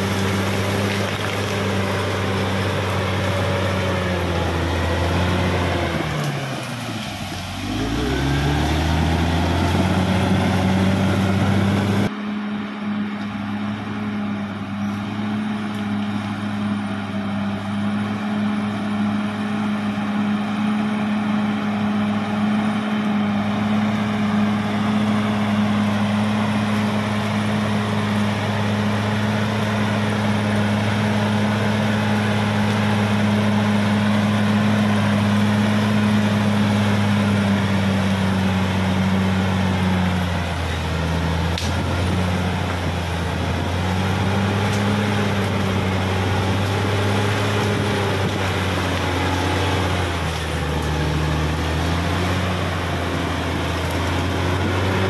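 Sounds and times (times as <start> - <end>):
blade pushing earth: 0.0 - 12.1, 14.8 - 55.0
bulldozer diesel engine running: 0.0 - 55.0.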